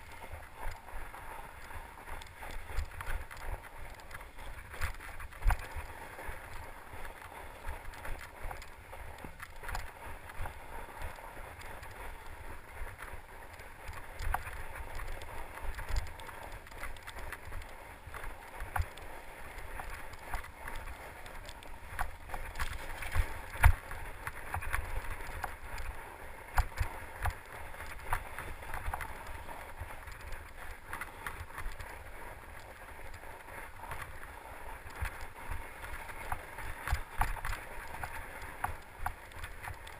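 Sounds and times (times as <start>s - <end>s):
bike tyres on snow: 0.0s - 39.9s.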